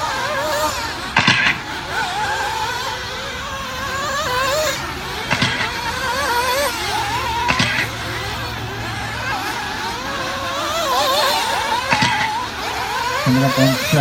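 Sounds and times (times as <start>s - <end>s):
rc car engines buzzing: 0.0s - 14.0s.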